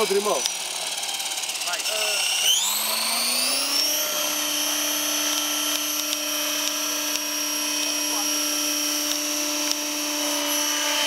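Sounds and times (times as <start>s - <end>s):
model helicopter motor whine: 0.0s - 11.0s
spinning rotors hum: 0.0s - 11.0s.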